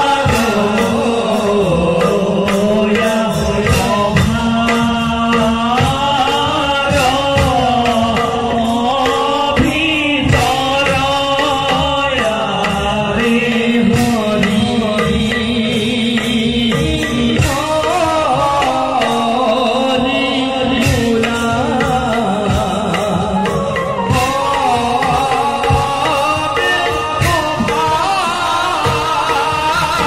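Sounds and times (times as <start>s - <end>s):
drum accompaniment: 0.0s - 30.0s
person singing a melody: 0.0s - 30.0s.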